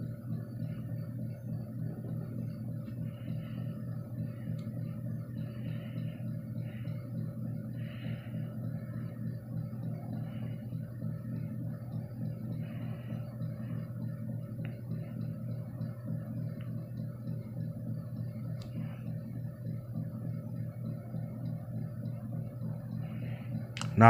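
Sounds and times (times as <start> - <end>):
ceiling fan motor hum: 0.0 - 24.0.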